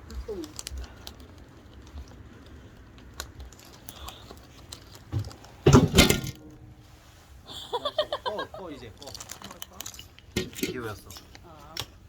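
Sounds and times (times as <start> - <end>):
bonfire wood crackling: 0.0 - 12.0.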